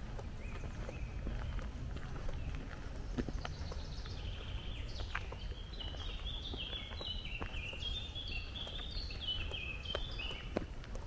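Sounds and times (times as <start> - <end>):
footsteps on dirt path: 0.0 - 11.0
songbird singing: 0.0 - 11.0
steady low rumble: 0.0 - 11.0.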